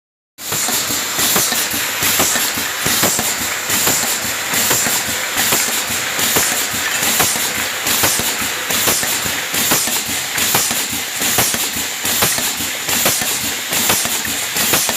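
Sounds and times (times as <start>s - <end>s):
machine clicking and knocking: 0.4s - 14.9s.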